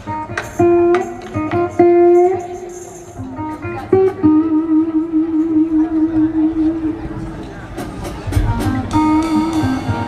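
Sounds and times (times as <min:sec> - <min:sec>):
guitar plucked notes: 0:00.0 - 0:10.0.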